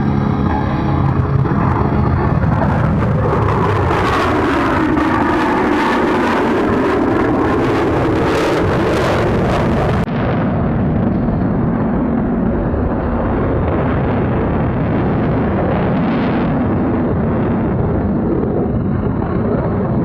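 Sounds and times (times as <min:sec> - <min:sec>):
loud jet rumble: 0:00.0 - 0:20.0.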